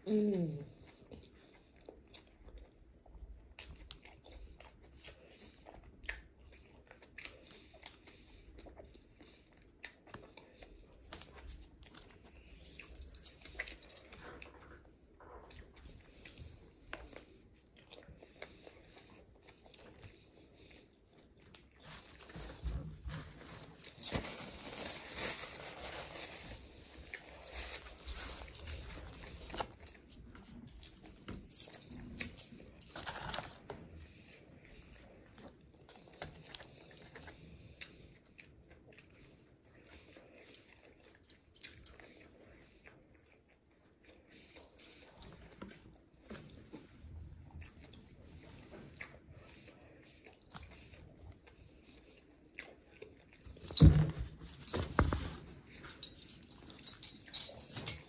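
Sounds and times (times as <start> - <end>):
wet chewing with crunches: 0.7 - 53.7.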